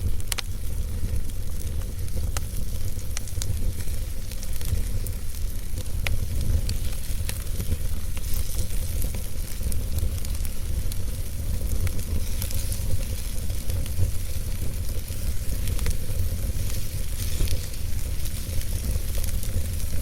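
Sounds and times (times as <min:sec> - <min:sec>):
fire rumbling: 0:00.0 - 0:20.0
logs crackling and popping: 0:00.0 - 0:20.0.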